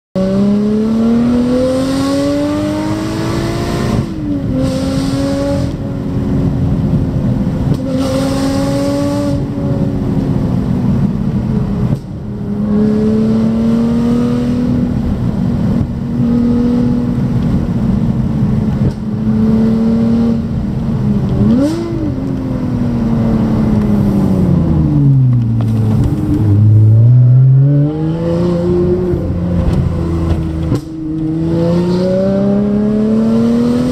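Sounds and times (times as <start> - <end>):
car engine from inside cabin: 0.2 - 33.9.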